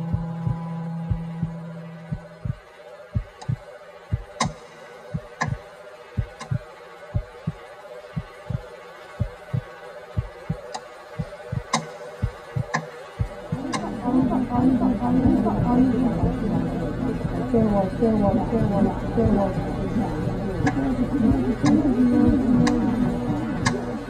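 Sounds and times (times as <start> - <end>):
heartbeat thumps: 0.0 - 2.6, 3.2 - 5.6, 6.2 - 24.0
steady low hum: 0.0 - 24.0.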